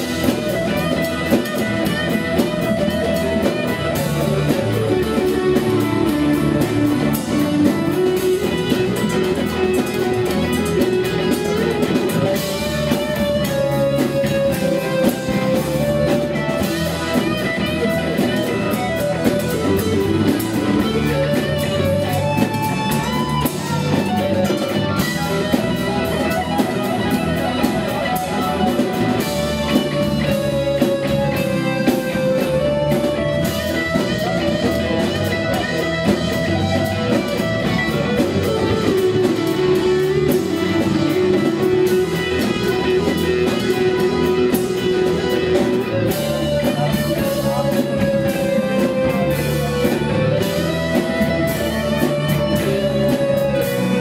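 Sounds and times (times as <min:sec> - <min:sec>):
hammond organ: 0:00.0 - 0:54.0
melodic lead line: 0:00.0 - 0:54.0
rock band playing: 0:00.0 - 0:54.0.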